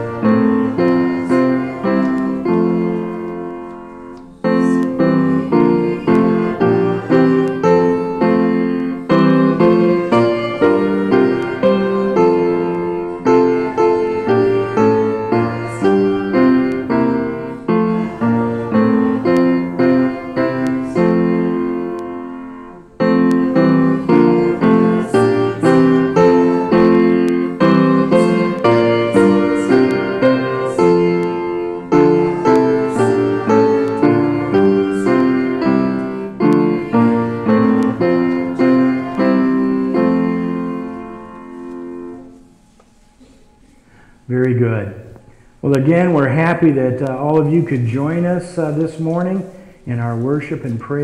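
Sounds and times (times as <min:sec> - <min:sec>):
piano playing a hymn: 0:00.0 - 0:51.0.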